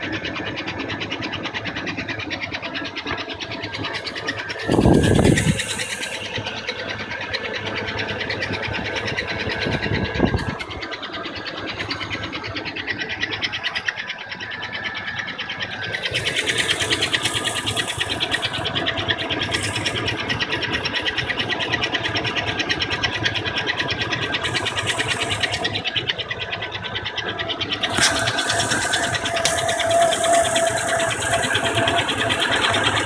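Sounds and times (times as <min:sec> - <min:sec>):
engine running with chatter: 0:00.0 - 0:33.0
thin steady squeal: 0:00.0 - 0:33.0.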